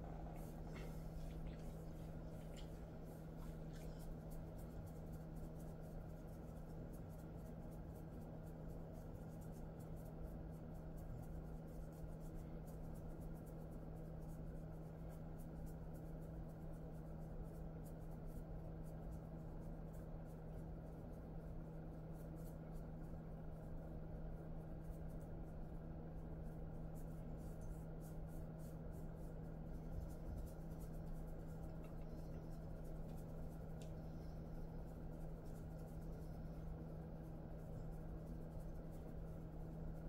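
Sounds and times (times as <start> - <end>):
fingers scratching dog fur: 0.0 - 40.0
steady low hum: 0.0 - 40.0.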